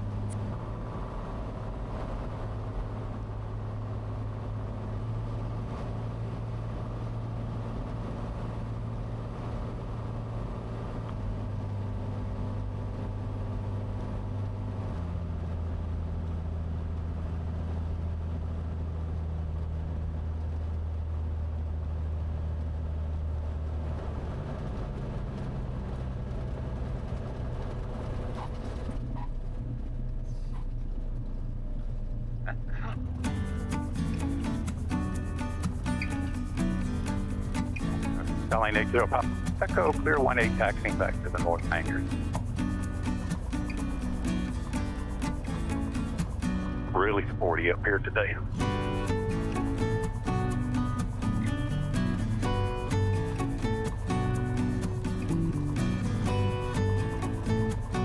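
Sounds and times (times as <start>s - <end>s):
airplane engine and propeller droning: 0.0s - 31.1s, 32.1s - 58.0s.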